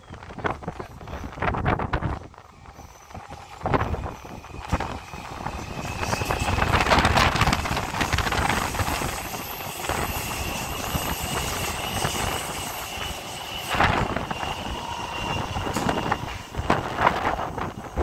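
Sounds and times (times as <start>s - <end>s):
train rumbling: 0.0s - 18.0s
thin high whine: 2.4s - 18.0s.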